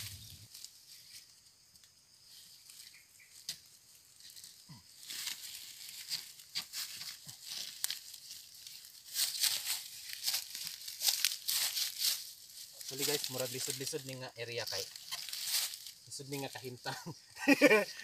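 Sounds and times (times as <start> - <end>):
dry leaves rustling and crackling: 0.0 - 1.4, 2.3 - 16.9.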